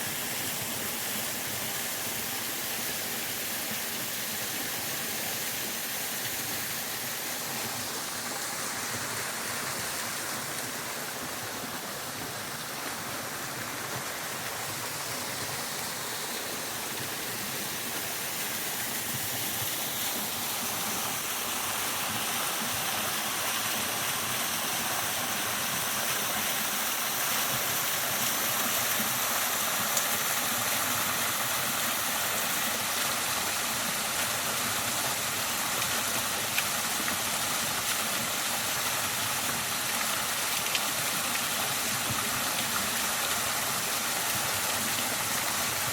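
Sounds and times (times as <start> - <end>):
waterfall rushing: 1.2 - 45.9.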